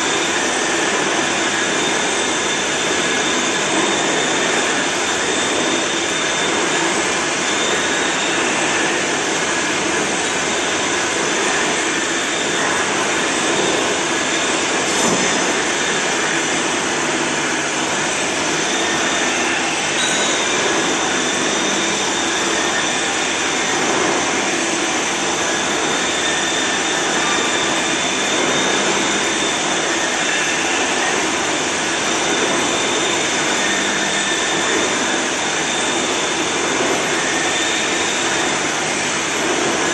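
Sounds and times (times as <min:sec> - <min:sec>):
faint high whine: 0:00.0 - 0:39.7
milling machine cutting metal: 0:00.0 - 0:39.9.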